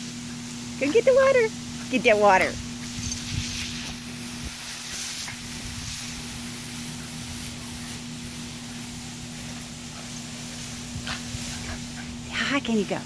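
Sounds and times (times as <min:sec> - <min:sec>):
water jets spraying on grass: 0:00.0 - 0:13.0.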